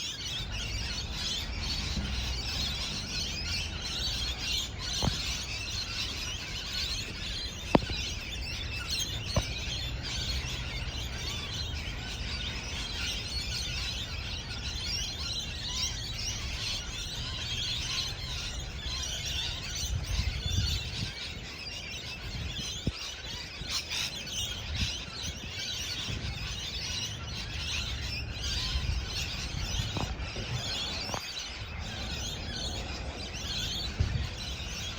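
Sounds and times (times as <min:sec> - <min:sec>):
parrots chattering and chirping: 0:00.0 - 0:34.9.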